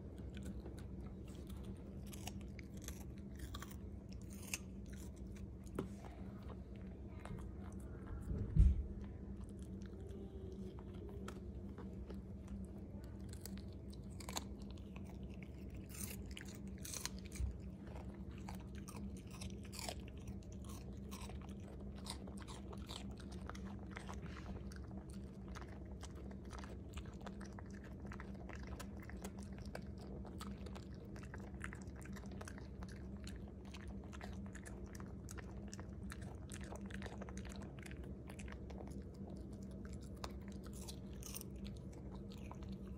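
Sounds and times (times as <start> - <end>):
dog chewing and crunching: 0.0 - 42.9
steady low hum: 0.0 - 42.9.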